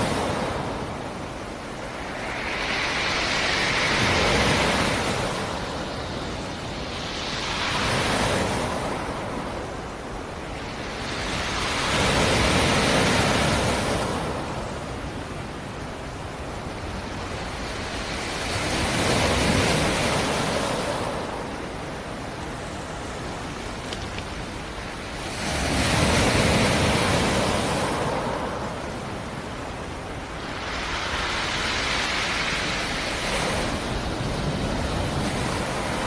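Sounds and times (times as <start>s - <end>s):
waves breaking: 0.0s - 36.0s.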